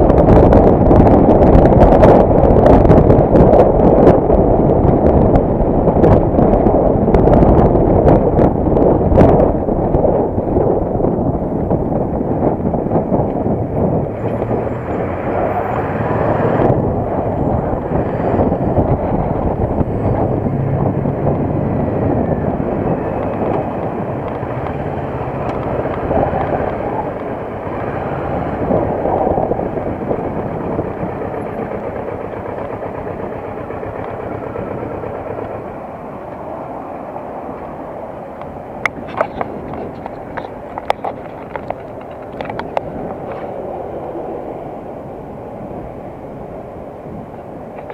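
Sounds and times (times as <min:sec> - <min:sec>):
motorcycle engine rumble: 0:00.0 - 0:47.9
rushing air: 0:00.0 - 0:47.9.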